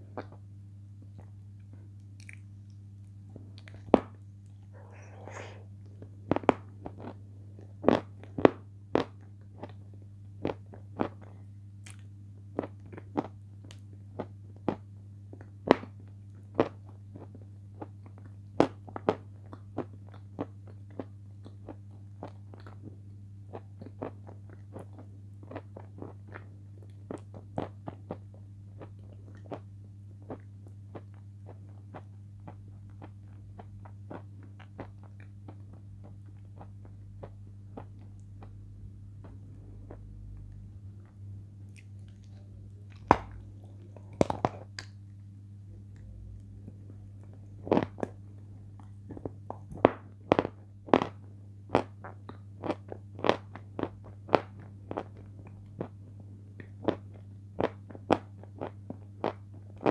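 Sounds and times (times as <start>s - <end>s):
steady low hum: 0.0s - 59.9s
chips being chewed: 2.2s - 14.8s, 16.3s - 38.6s, 41.6s - 45.3s, 45.9s - 56.0s.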